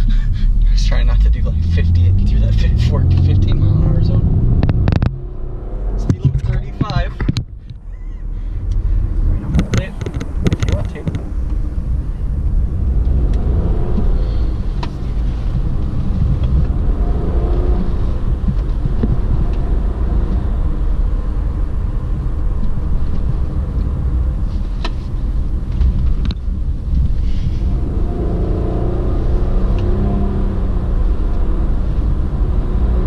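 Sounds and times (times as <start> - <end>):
car engine: 0.0 - 33.0
road rumble: 0.0 - 33.0.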